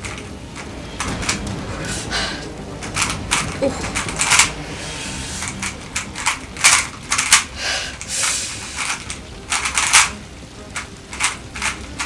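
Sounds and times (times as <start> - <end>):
puzzle cube clicking and rasping: 0.0 - 12.0.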